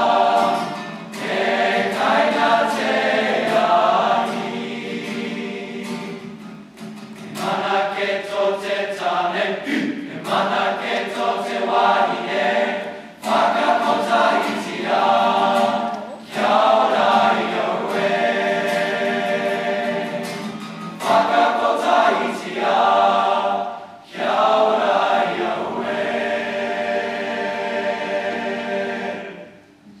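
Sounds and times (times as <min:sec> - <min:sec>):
boys' choir singing: 0:00.0 - 0:06.4, 0:07.3 - 0:29.8.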